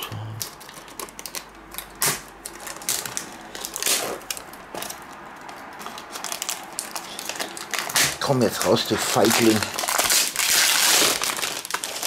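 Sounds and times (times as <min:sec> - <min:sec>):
cardboard and plastic wrap rustling: 0:00.0 - 0:12.0.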